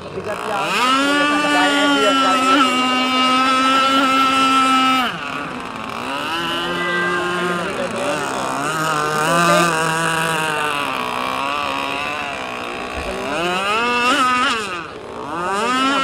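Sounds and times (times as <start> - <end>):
model speedboat motor racing: 0.0 - 16.0.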